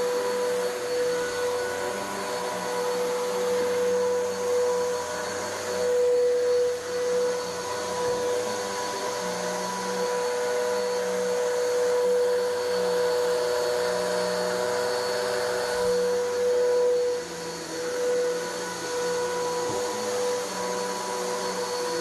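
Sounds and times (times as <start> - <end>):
vacuum cleaner on carpet: 0.0 - 22.0.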